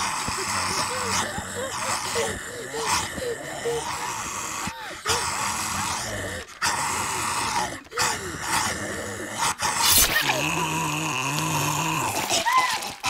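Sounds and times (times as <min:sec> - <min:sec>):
guttural growling and groaning: 0:00.0 - 0:13.0.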